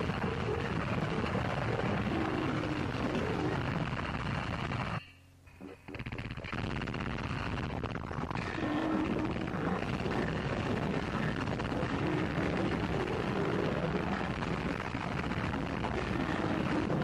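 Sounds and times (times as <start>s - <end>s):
harsh distorted noise music: 0.0s - 5.0s, 5.6s - 17.0s.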